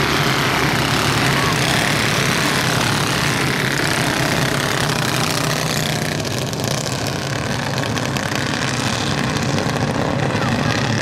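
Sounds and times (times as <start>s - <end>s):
go-kart engines racing: 0.0s - 11.0s.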